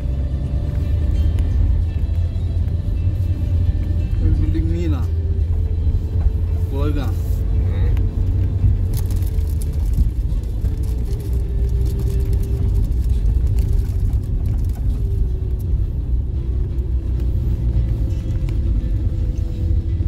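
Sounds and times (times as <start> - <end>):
rumble of tyres and engine: 0.0 - 20.0.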